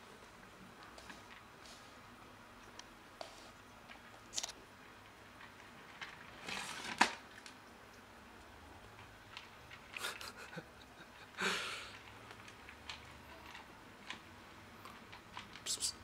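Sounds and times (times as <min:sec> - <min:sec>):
cat eating dry kibble: 0:00.1 - 0:16.0.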